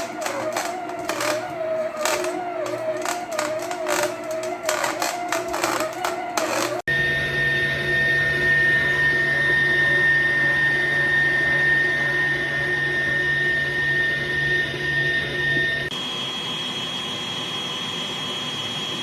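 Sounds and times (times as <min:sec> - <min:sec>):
stand mixer motor whining: 0:00.0 - 0:16.2.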